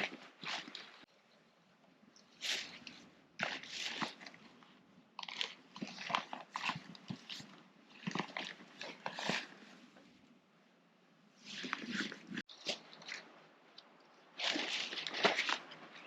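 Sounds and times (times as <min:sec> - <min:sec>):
crinkly rustling and crunching: 0:00.0 - 0:01.1, 0:02.2 - 0:10.2, 0:11.4 - 0:16.0.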